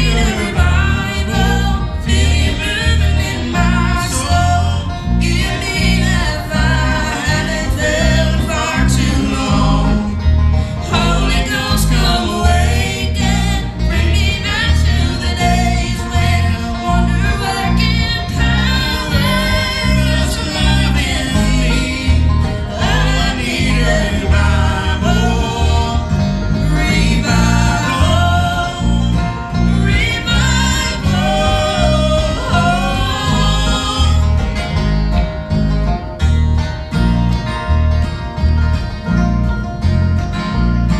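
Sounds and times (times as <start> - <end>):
people singing: 0.0 - 36.2
banjo: 0.0 - 40.9
bass line: 0.0 - 40.9
strummed acoustic guitar: 0.0 - 40.9.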